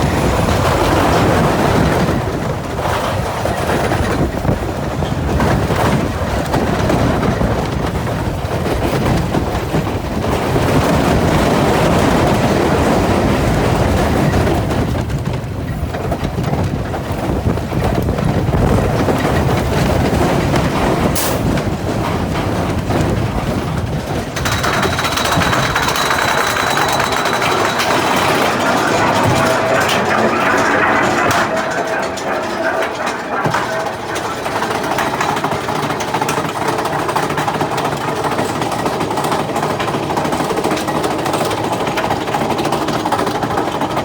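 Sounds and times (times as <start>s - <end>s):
roller coaster rumbling on track: 0.0s - 44.0s.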